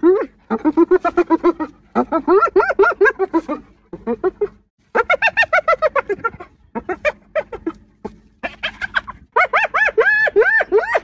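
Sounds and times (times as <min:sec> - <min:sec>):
hyena giggling: 0:00.0 - 0:11.0.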